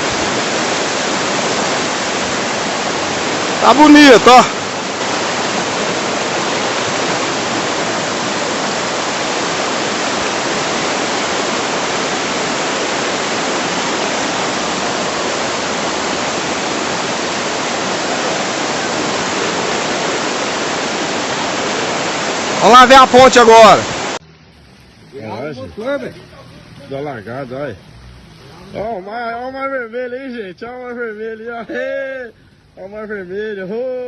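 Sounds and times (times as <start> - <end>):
floodwater rushing: 0.0 - 29.8.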